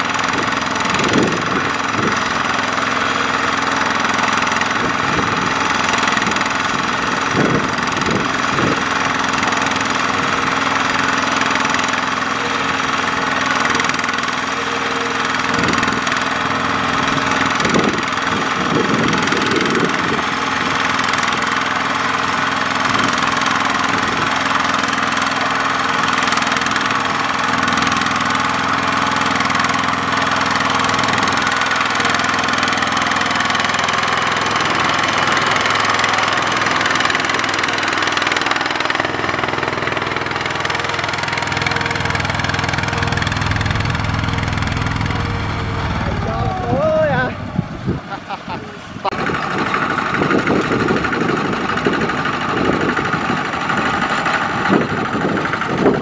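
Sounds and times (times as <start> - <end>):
diesel engine knocking: 0.0 - 56.0.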